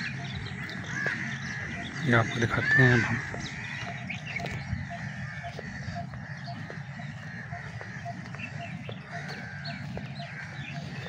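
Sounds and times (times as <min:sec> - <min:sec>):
chorus of birdsong: 0:00.0 - 0:11.0
low rumble: 0:00.0 - 0:11.0.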